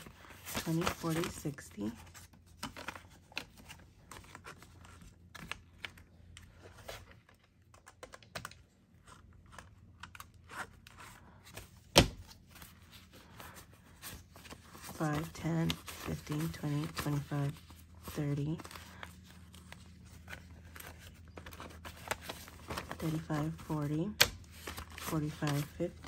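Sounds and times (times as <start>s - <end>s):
banknotes flicking and rustling: 0.0s - 26.0s.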